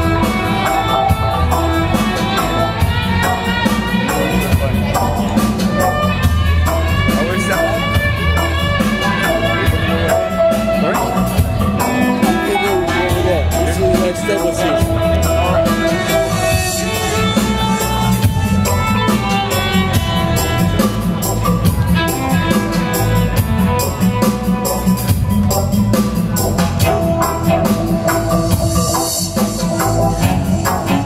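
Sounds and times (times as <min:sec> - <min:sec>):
electronic music: 0:00.0 - 0:31.0
heavy bass: 0:00.0 - 0:31.0.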